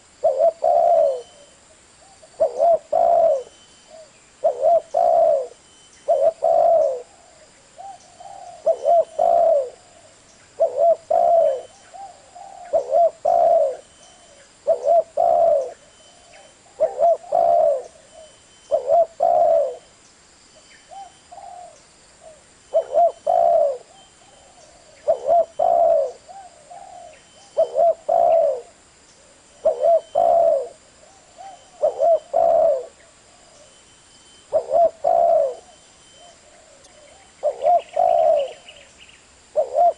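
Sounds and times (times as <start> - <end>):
dove cooing: 0.0 - 19.9, 20.9 - 33.7, 34.4 - 38.9, 39.5 - 39.9.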